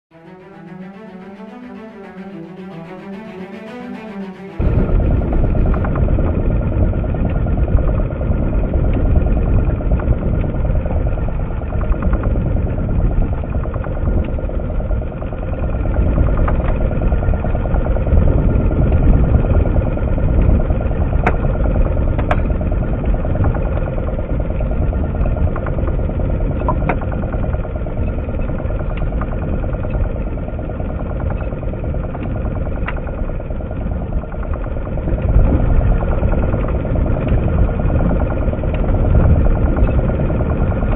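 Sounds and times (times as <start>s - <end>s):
outboard motor running: 4.6s - 40.9s.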